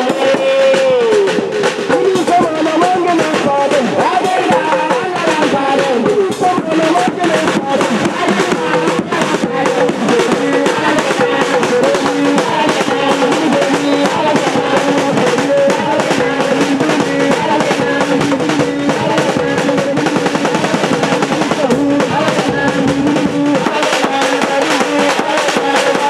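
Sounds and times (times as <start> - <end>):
percussion: 0.0 - 26.0
talking drum strokes: 0.0 - 26.0.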